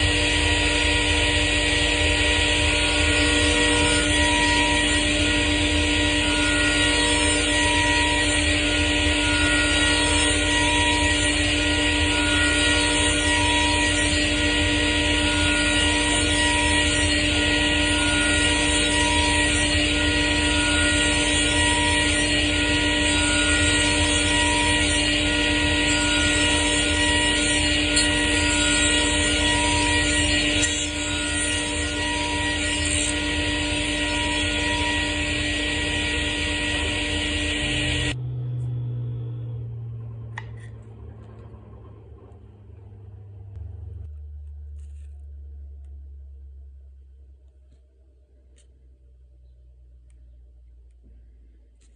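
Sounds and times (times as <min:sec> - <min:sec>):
table saw whining: 0:00.0 - 0:43.6.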